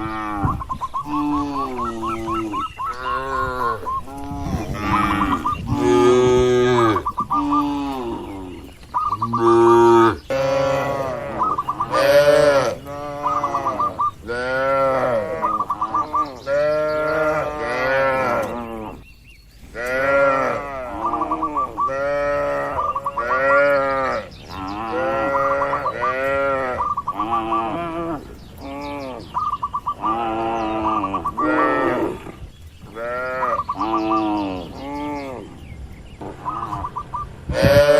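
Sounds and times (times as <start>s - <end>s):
cattle mooing: 0.0s - 19.0s, 19.8s - 29.3s, 30.0s - 32.4s.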